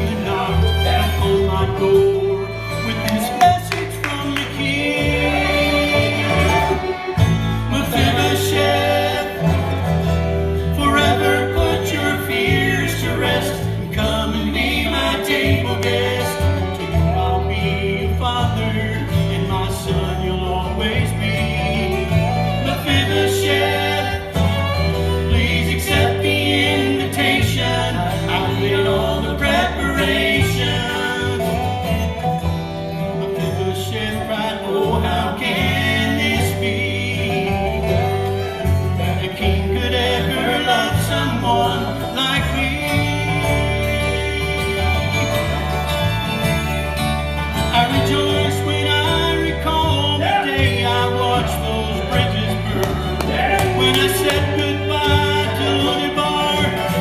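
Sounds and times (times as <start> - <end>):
banjo: 0.0 - 57.0
bass line: 0.0 - 57.0
fiddle: 0.0 - 57.0
rhythm guitar: 0.0 - 57.0.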